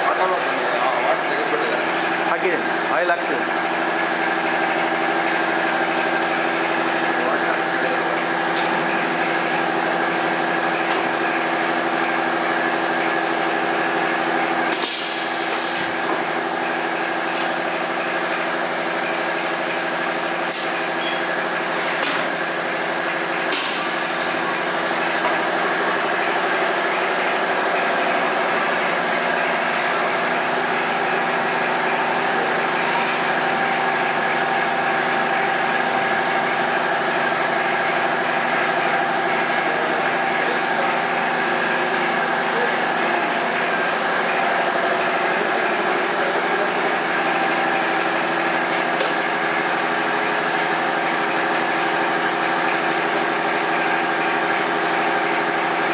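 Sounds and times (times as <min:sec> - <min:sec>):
machine hum with steady tones: 0:00.0 - 0:55.9.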